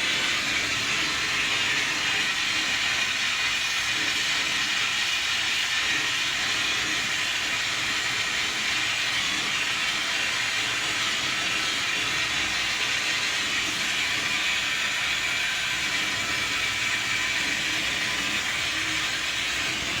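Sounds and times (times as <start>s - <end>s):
torch flame hissing: 0.0s - 20.0s.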